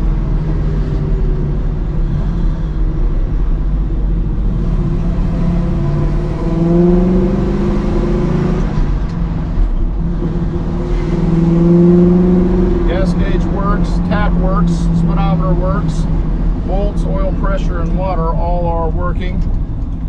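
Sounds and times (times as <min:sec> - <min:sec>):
car engine revving: 0:00.0 - 0:19.6.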